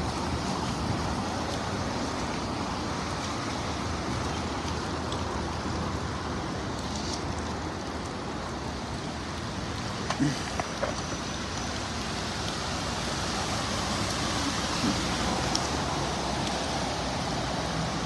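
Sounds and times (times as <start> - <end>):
rain: 0.0 - 18.0
wind: 0.0 - 18.0.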